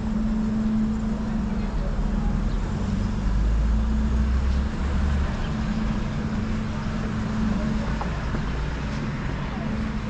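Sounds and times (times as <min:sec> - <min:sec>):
low hum of traffic: 0:00.0 - 0:10.0.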